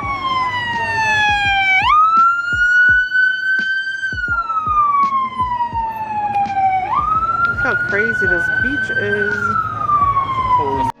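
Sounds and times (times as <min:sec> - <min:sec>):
wailing siren: 0:00.0 - 0:11.0.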